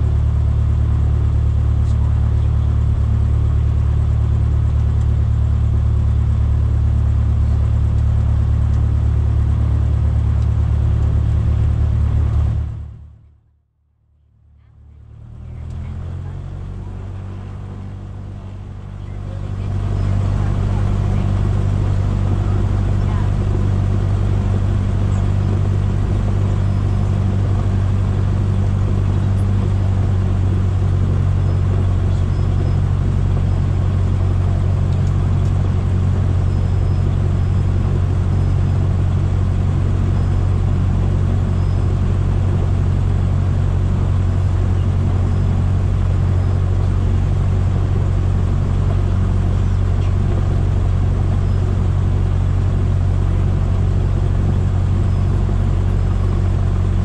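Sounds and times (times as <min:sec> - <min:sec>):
light aircraft engine droning: 0:00.0 - 0:13.3, 0:14.3 - 0:57.0.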